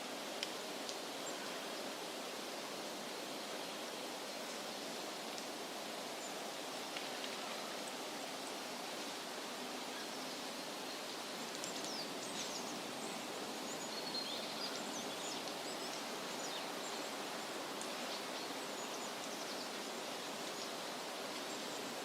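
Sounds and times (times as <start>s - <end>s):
small birds chirping faintly: 0.0s - 22.0s
wind rustling leafy trees: 0.0s - 22.0s.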